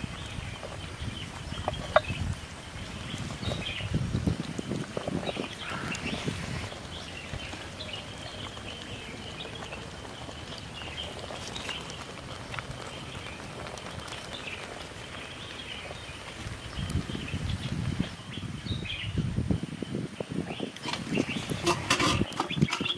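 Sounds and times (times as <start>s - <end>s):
birds chirping: 0.0s - 19.2s, 20.2s - 22.9s.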